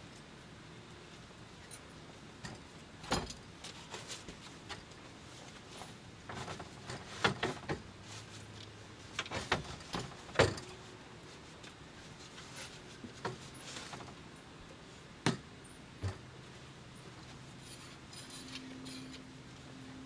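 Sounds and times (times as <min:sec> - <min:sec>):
camper trailer parts knocking and clattering: 0:02.4 - 0:10.9, 0:11.7 - 0:19.4.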